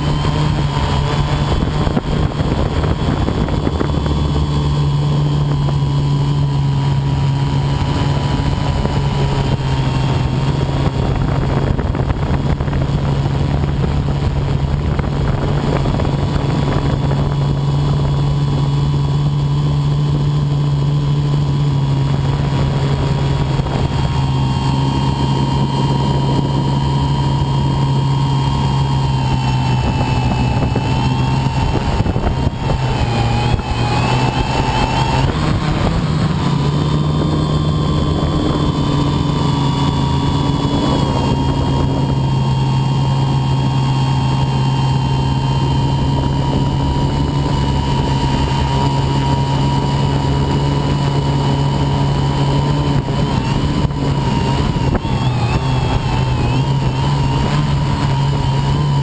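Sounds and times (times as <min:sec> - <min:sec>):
drone propellers droning: 0:00.0 - 0:59.0.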